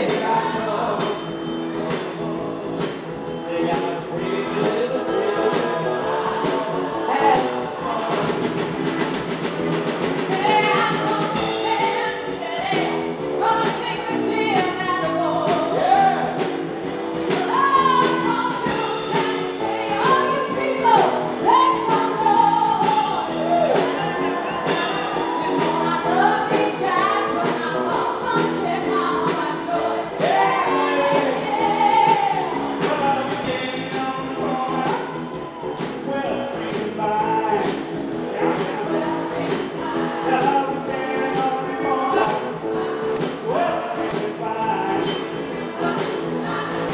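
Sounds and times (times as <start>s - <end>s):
person singing lead vocal: 0.0s - 9.0s, 10.2s - 46.9s
live band playing upbeat song: 0.0s - 46.9s.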